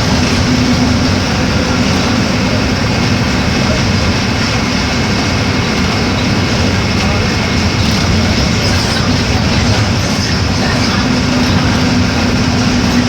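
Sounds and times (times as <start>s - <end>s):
bus diesel engine running: 0.0s - 13.0s
bus rolling and rattling: 0.0s - 13.0s.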